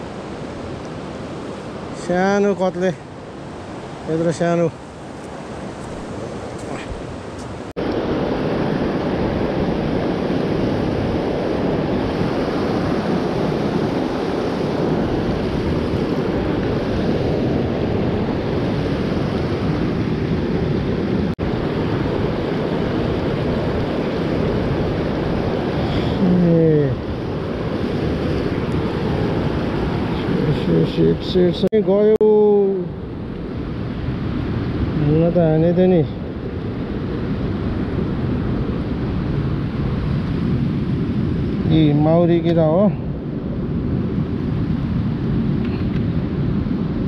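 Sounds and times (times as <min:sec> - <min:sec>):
wind on microphone: 0:00.0 - 0:47.0.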